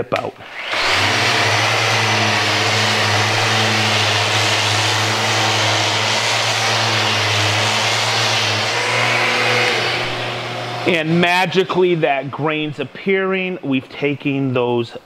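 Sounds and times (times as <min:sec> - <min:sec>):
dust extractor hissing: 0:00.4 - 0:14.4
sander sanding wood: 0:00.4 - 0:14.7.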